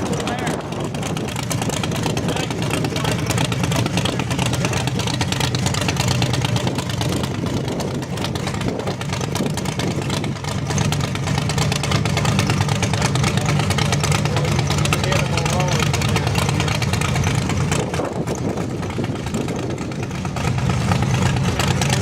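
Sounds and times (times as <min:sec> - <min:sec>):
car engine humming: 0:00.0 - 0:22.0.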